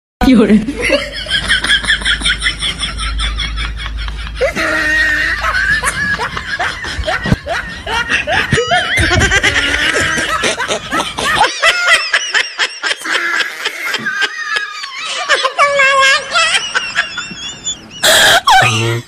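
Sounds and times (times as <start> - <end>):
people laughing: 0.6 - 19.0.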